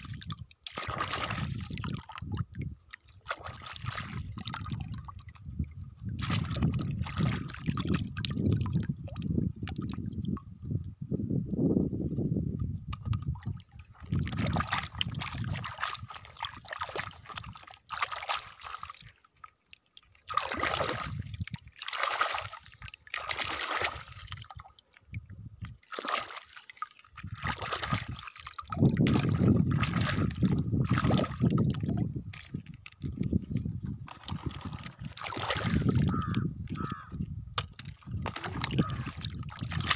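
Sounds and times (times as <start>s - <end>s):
muddy water splashing: 0.0s - 10.3s, 12.9s - 39.9s.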